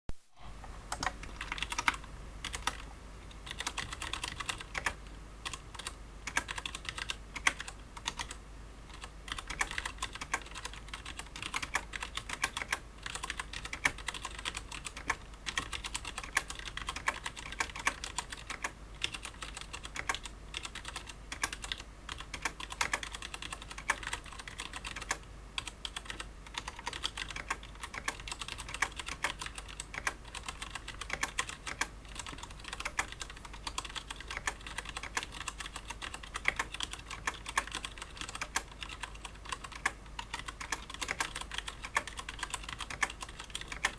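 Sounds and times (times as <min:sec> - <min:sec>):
mechanical keyboard typing: 0:00.9 - 0:43.9.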